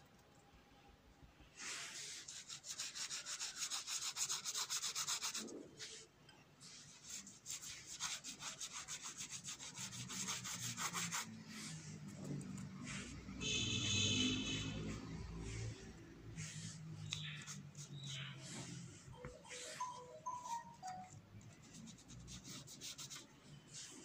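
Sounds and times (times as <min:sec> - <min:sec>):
paintbrush scrubbing dry: 0:01.6 - 0:24.0.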